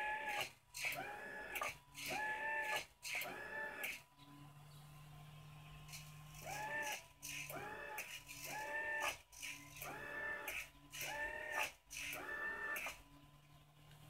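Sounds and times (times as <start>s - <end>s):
actuator motor whining: 0.0s - 14.0s.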